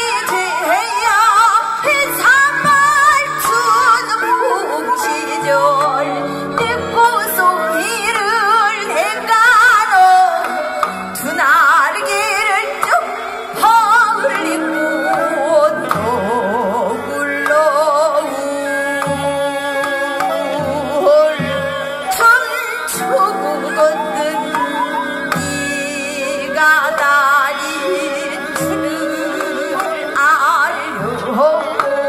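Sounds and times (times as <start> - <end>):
person singing with vibrato: 0.0 - 32.0.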